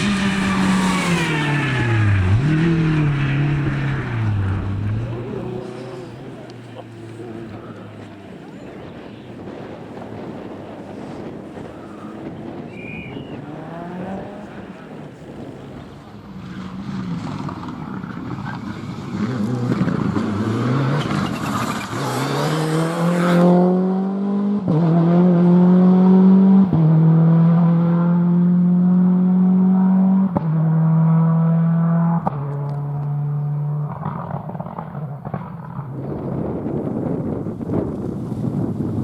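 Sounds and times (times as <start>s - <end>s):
rally car engine accelerating: 0.0s - 8.2s, 12.8s - 38.6s.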